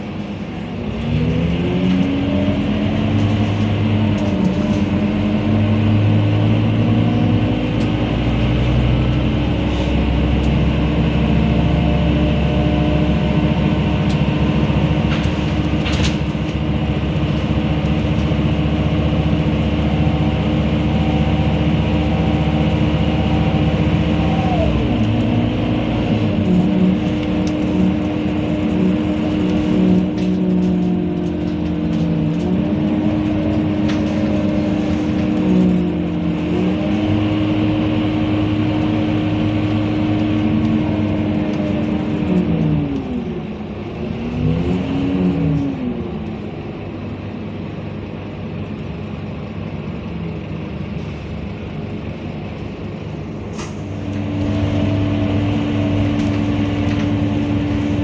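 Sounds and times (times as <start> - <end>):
bus engine running: 0.0 - 58.0
drivetrain whine: 0.0 - 58.0.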